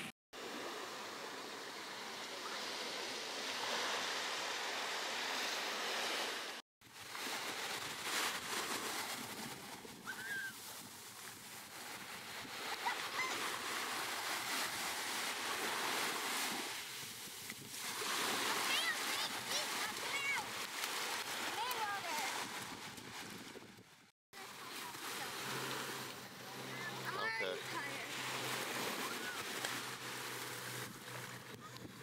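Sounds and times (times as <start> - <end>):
ocean surf: 0.0 - 23.4, 24.4 - 32.0
wind: 0.0 - 32.0.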